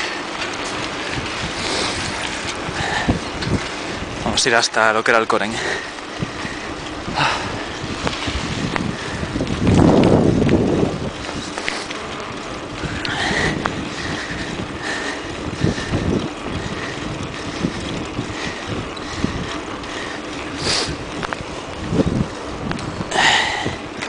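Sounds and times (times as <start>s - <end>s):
bicycle rattle: 0.0s - 24.0s
wind buffeting microphone: 0.0s - 24.0s.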